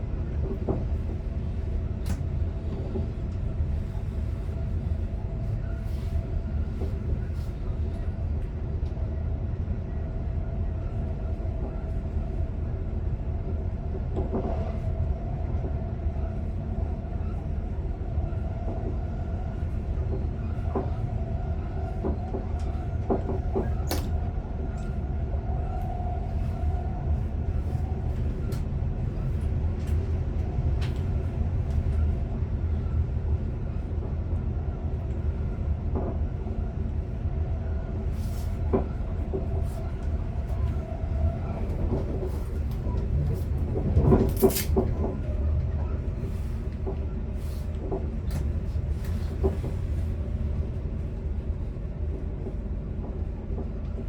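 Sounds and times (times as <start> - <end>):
electric train rumble: 0.0 - 54.0.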